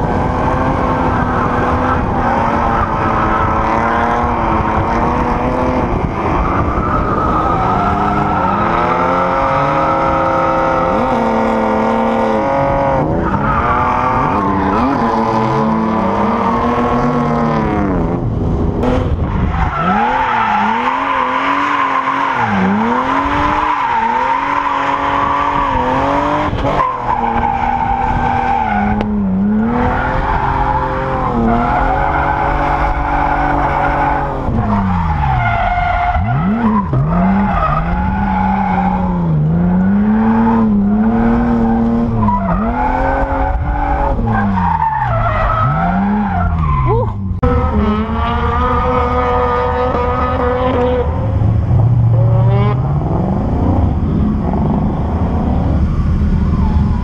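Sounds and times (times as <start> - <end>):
car engine revving hard: 0.0 - 46.8, 47.4 - 57.0
tyres skidding and squealing: 0.0 - 57.0.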